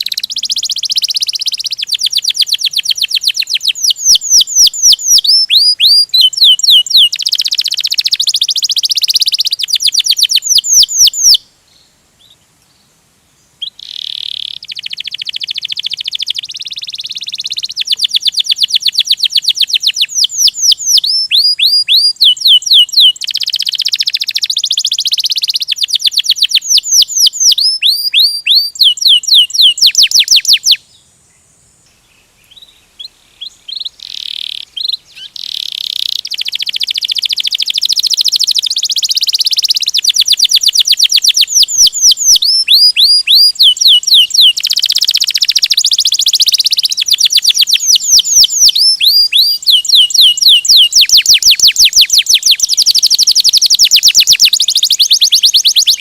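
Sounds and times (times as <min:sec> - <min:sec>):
canary singing trills: 0:00.0 - 0:12.5, 0:13.6 - 0:56.0.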